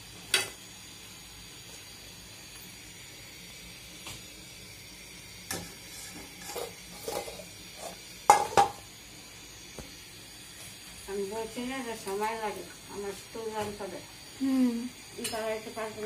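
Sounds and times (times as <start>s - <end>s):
frying oil sizzle: 0.0s - 16.0s.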